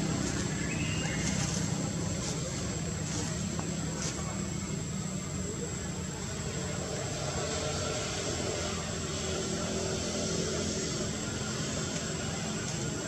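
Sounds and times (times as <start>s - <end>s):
high-pitched whine and hiss: 0.0s - 13.0s
low engine-like hum: 0.0s - 13.0s.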